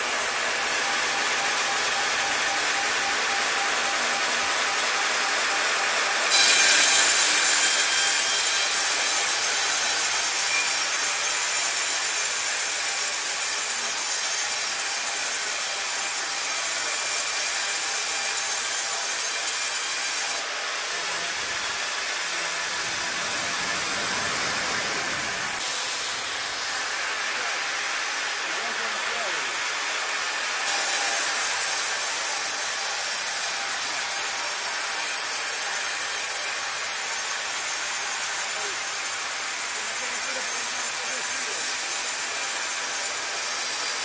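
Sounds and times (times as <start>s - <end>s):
band saw cutting timber: 0.0s - 44.0s.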